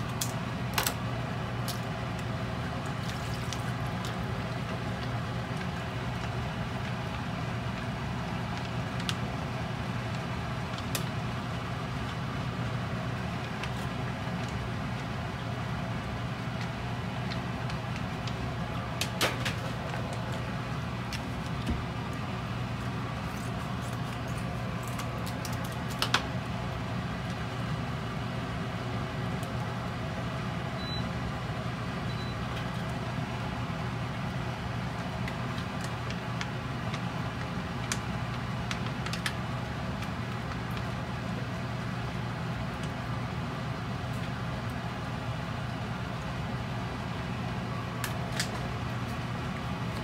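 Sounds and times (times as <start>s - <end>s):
low hum and hiss: 0.0s - 50.0s.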